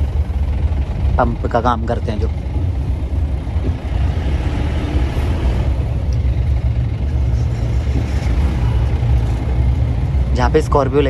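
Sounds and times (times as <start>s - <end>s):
jeep engine deep rumble: 0.0s - 11.0s.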